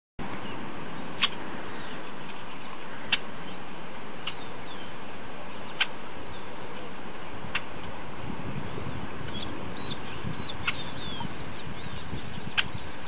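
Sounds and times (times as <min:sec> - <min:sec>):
steady background hiss: 0:00.2 - 0:13.0.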